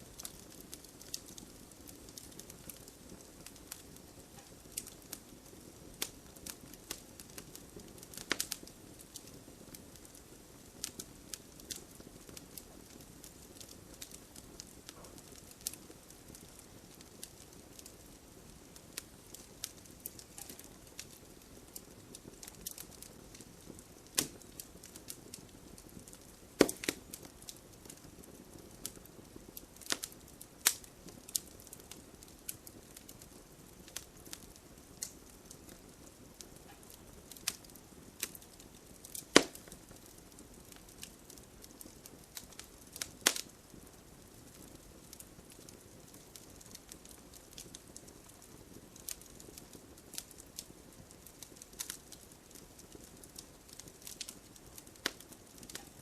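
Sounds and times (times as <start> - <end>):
burning wood popping: 0.0 - 56.0
campfire crackling: 0.0 - 56.0
soft steady hiss: 0.0 - 56.0.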